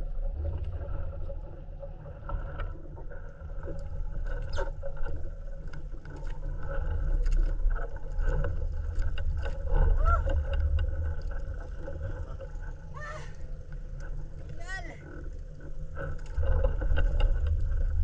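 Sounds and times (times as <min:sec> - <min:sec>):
boat engine rumble: 0:00.0 - 0:18.0.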